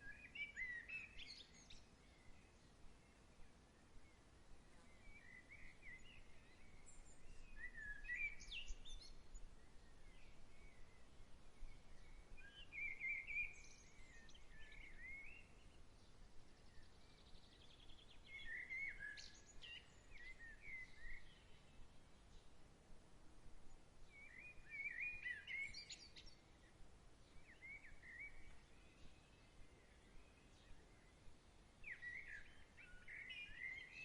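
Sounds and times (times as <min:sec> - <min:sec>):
gentle outdoor breeze: 0:00.0 - 0:34.0
songbirds chirping: 0:00.0 - 0:34.0.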